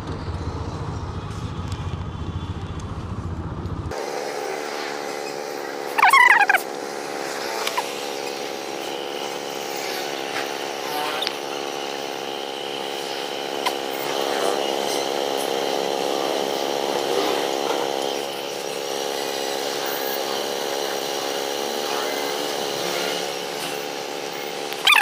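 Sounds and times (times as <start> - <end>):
motor running with even hum: 3.9 - 25.0.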